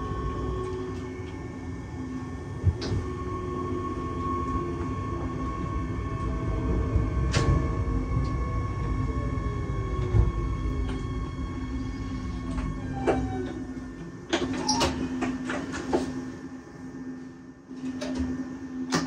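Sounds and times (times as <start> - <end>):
train running rumble: 0.0 - 16.1
steady hum: 0.0 - 19.0.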